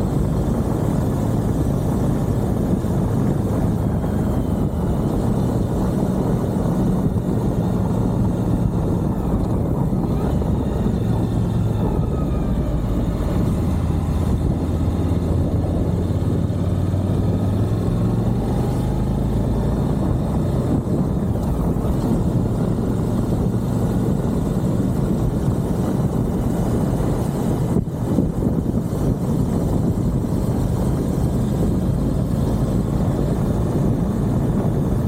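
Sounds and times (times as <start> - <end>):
motorcycle engine running: 0.0 - 35.0
rushing wind noise: 0.0 - 35.0.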